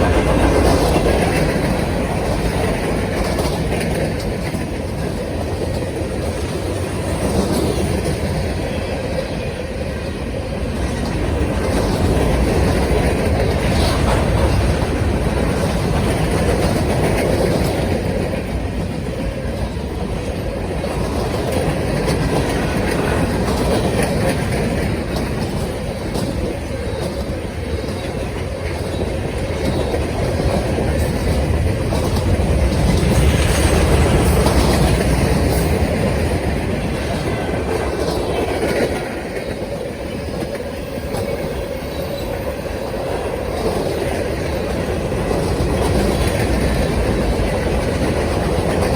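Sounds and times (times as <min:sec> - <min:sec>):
freight train wheels rumbling: 0:00.0 - 0:48.9
wheels clacking over rail joints: 0:00.0 - 0:48.9.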